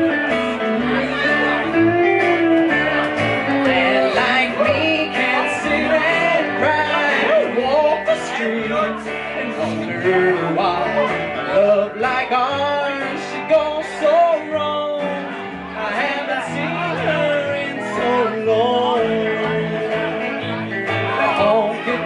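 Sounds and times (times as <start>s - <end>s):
acoustic guitar: 0.0s - 22.0s
electric guitar: 0.0s - 22.0s
upright bass: 0.0s - 22.0s.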